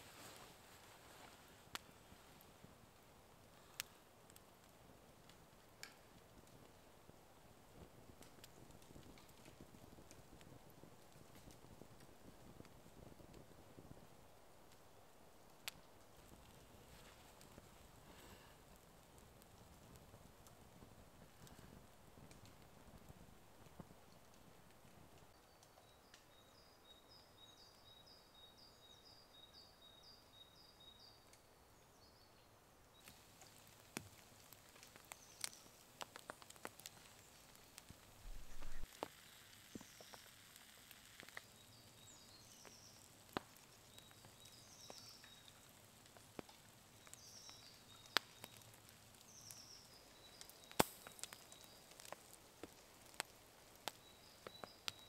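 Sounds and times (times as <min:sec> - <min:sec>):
log fire crackling and popping: 0:00.0 - 0:26.4, 0:33.0 - 0:55.0.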